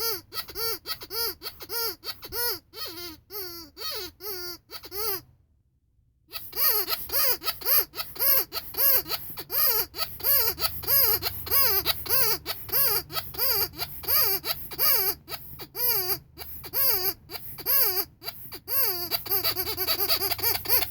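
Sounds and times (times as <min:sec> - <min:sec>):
rubber squeaky toy squeaking: 0:00.0 - 0:05.3, 0:06.3 - 0:20.9.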